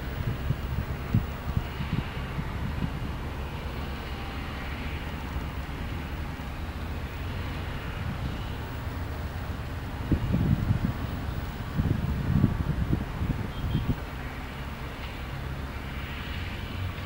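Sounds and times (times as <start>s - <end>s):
diesel engines rumbling: 0.0s - 17.0s.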